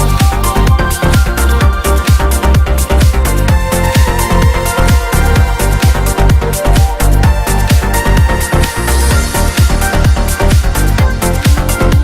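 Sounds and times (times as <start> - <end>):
kick drum beat: 0.0 - 12.0.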